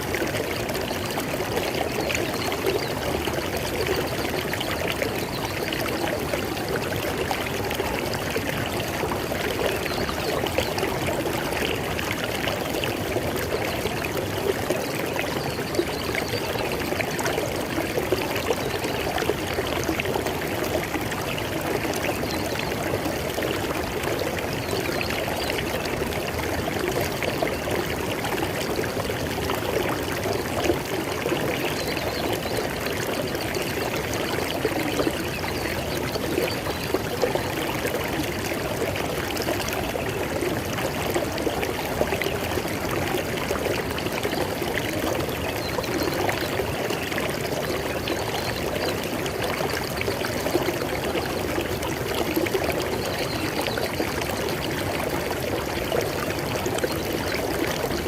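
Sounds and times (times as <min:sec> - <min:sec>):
river water flowing and splashing: 0:00.0 - 0:58.0.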